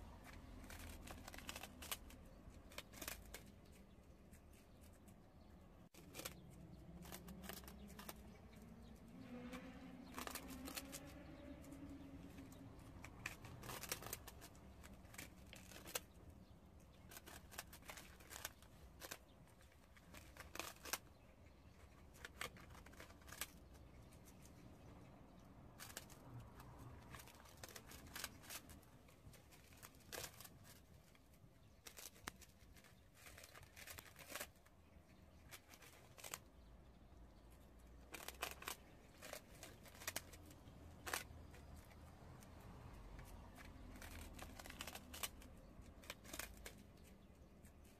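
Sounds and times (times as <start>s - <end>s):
crisp crunching of rice cakes: 0.0s - 36.7s, 37.8s - 47.9s.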